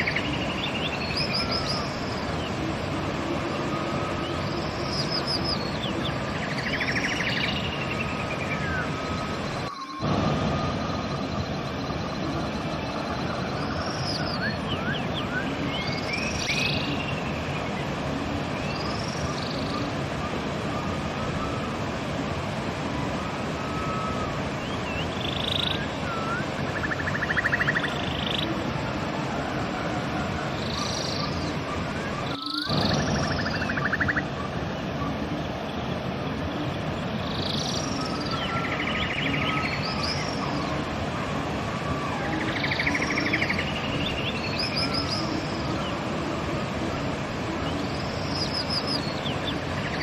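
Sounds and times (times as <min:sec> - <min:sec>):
river rushing: 0:00.0 - 0:50.0
small birds singing: 0:00.0 - 0:50.0.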